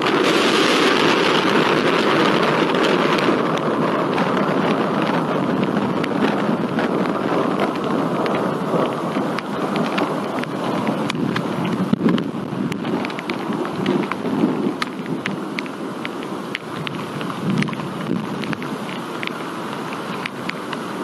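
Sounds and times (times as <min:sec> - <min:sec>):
heavy rain: 0:00.0 - 0:21.0
raindrops ticking on microphone: 0:00.0 - 0:21.0.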